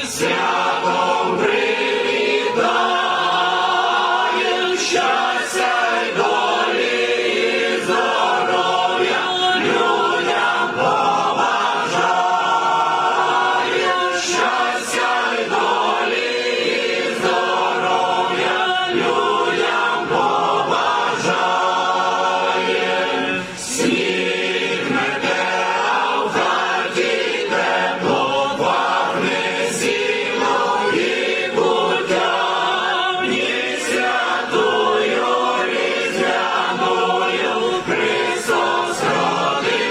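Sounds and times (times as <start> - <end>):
church choir singing a carol: 0.0 - 39.9.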